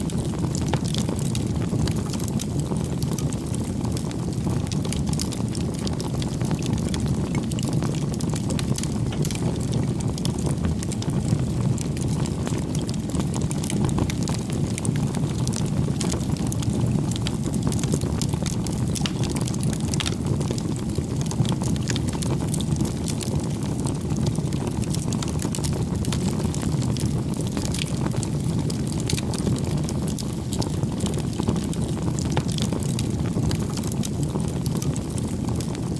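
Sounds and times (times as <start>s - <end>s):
bonfire crackling: 0.0s - 35.9s.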